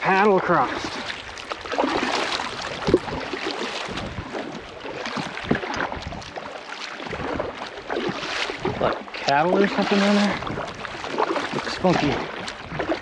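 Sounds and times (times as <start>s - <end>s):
paddle hitting water: 0.0s - 13.0s
paddle strokes splashing water: 0.0s - 13.0s.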